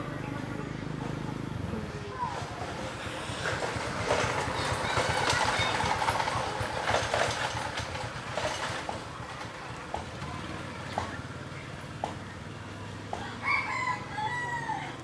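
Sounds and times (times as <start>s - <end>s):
vehicle passing rattling: 0.0s - 15.0s.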